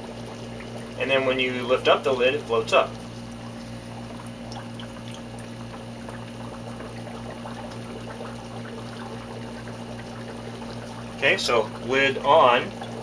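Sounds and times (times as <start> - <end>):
air bubbles fizzing and gurgling: 0.0 - 13.0
steady low hum: 0.0 - 13.0.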